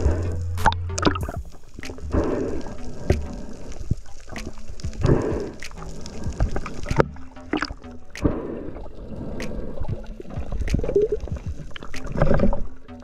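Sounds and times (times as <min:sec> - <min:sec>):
underwater rushing and bubbling: 0:00.0 - 0:13.0.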